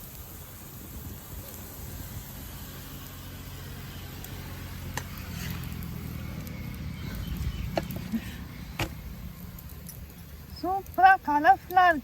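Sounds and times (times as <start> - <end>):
pancake sizzling on a pan: 0.0 - 12.0.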